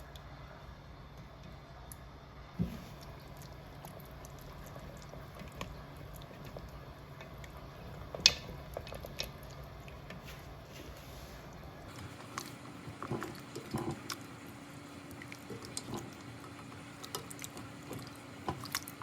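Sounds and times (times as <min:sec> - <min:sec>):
pot simmering with bubbling pops: 0:00.0 - 0:10.7, 0:11.4 - 0:19.0
steady low hum: 0:00.0 - 0:19.0.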